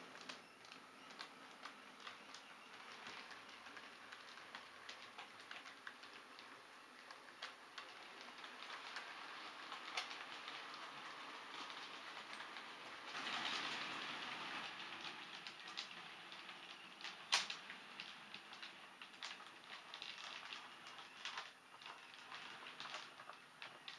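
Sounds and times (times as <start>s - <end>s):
wheels clicking on rails: 0.0s - 23.9s
model train rattling on track: 1.2s - 23.9s.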